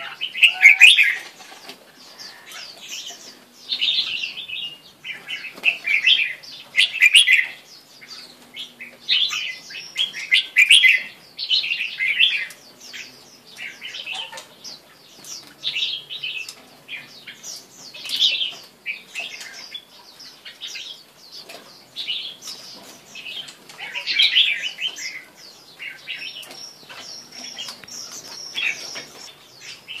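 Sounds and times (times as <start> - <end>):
bird singing warbling phrases: 0.0 - 30.0.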